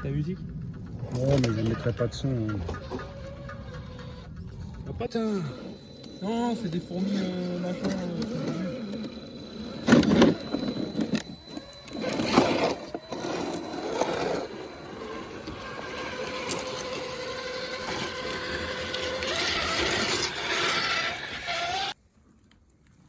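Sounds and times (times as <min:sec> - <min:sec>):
electric motor whining: 0:00.5 - 0:22.0.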